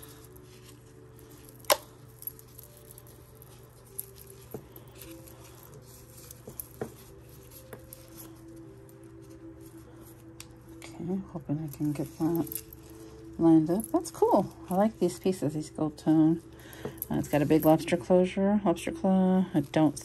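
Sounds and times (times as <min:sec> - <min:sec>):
necklace chain clicking and rattling: 0:00.0 - 0:18.1, 0:19.5 - 0:20.0.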